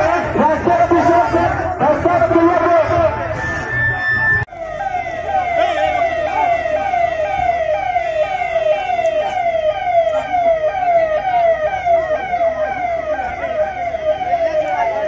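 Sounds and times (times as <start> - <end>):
police siren: 0.0 - 15.0.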